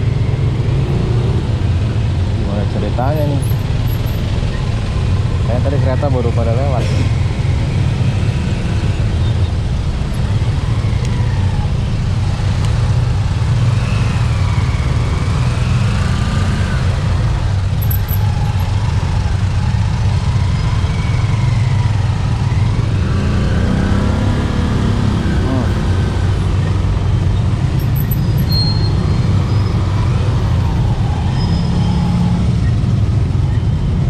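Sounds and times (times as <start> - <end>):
traffic engines rumbling: 0.0 - 34.0.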